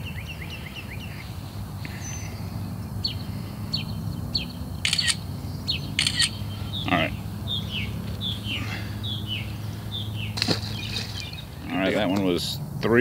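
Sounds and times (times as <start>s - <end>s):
songbird chirping: 0.0s - 12.6s.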